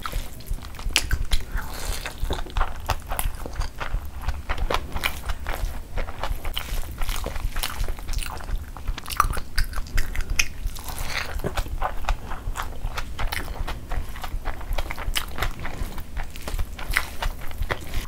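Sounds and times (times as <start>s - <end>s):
chewing rice: 0.0s - 18.0s
fingers squishing rice: 0.0s - 18.0s.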